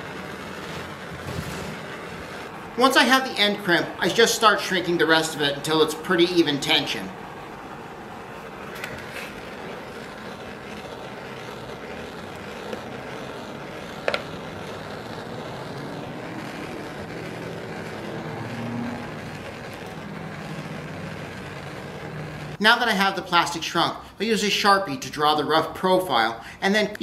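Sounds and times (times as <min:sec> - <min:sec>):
propane torch hissing: 0:00.0 - 0:24.4.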